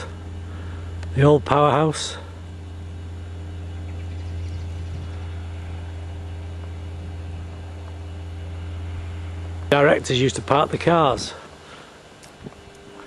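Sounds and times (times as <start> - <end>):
faint higher hum: 0.0 - 13.0
steady low drone: 0.0 - 13.0.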